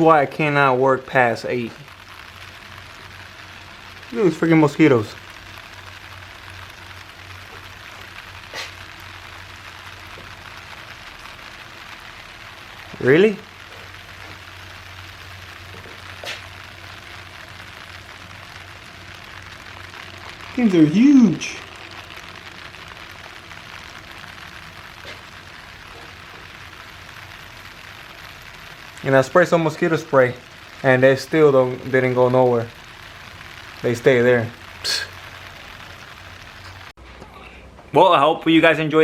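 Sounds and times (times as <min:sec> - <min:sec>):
background hiss: 0:00.0 - 0:39.0.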